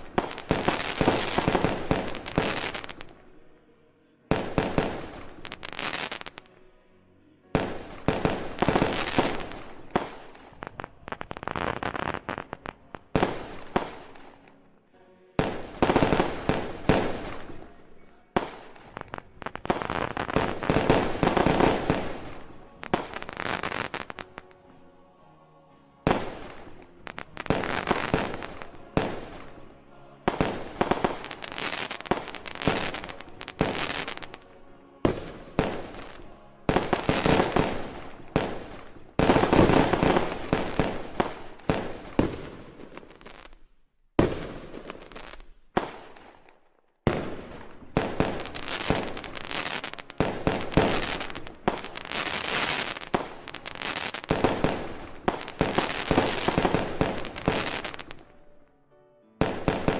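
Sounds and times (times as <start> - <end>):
fireworks bursting: 0.0 - 3.4, 4.3 - 6.6, 7.5 - 14.6, 15.4 - 24.8, 26.0 - 58.4, 59.4 - 59.9.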